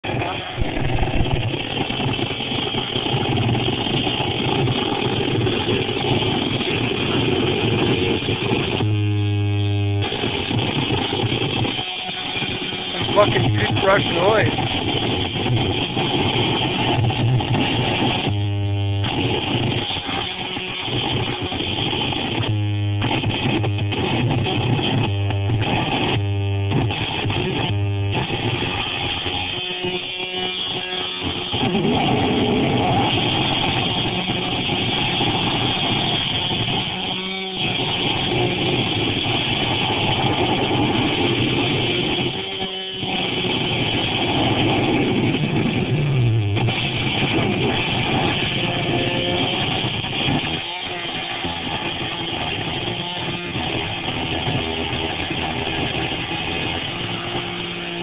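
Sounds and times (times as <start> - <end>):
distorted buzzing drone: 0.0 - 58.0.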